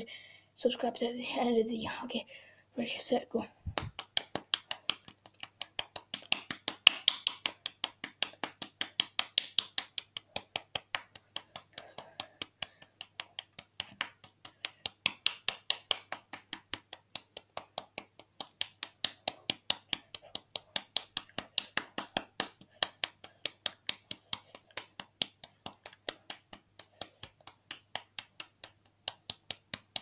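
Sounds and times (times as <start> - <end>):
hand slapping a cheek: 3.7 - 30.0.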